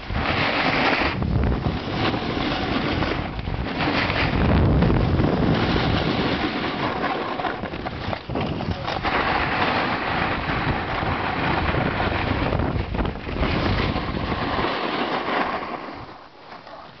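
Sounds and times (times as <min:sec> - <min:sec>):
wind buffeting microphone: 0:00.0 - 0:14.7
snowboard scraping packed snow: 0:00.0 - 0:17.0.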